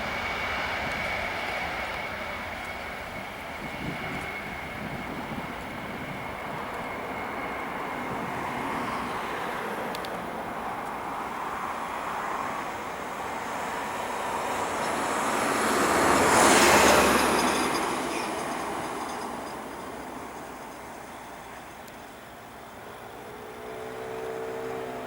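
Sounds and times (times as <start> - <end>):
jet airliner passing by: 0.0 - 25.0.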